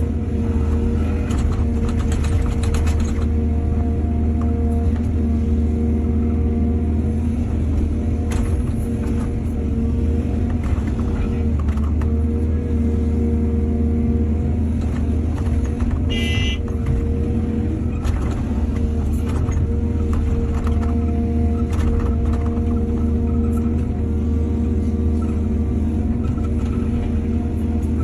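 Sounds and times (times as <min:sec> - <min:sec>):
diesel excavator engine running: 0:00.0 - 0:28.0.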